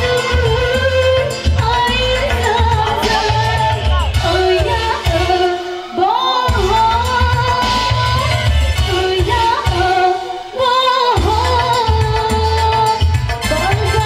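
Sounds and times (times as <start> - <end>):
amplified music with pulsing bass: 0.0 - 14.0
woman singing into a microphone: 0.0 - 14.0.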